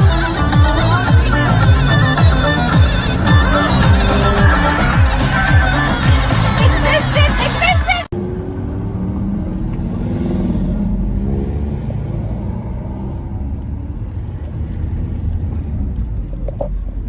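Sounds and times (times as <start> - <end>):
car engine running: 0.0 - 17.0
road rumble: 0.0 - 17.0.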